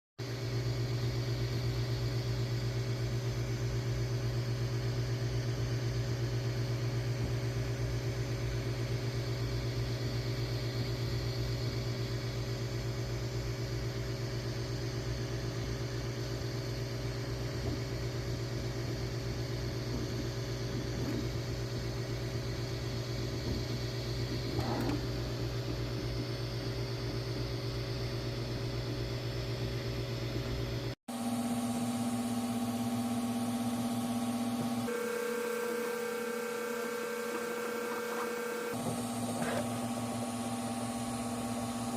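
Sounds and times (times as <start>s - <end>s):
low mechanical hum: 0.2s - 41.9s.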